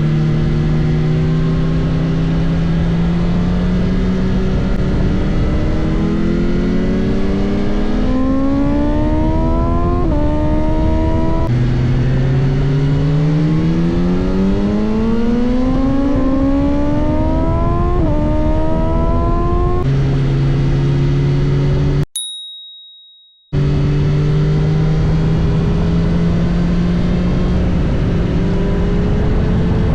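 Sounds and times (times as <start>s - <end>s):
motorcycle engine accelerating: 0.0s - 22.0s, 23.6s - 29.9s.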